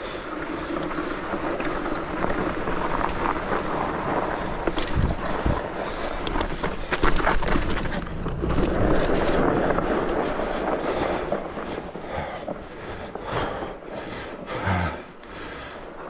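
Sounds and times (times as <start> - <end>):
wind on microphone: 0.0 - 14.6
bike rattling over bumps: 0.0 - 16.0
tyres crunching through snow: 0.0 - 16.0.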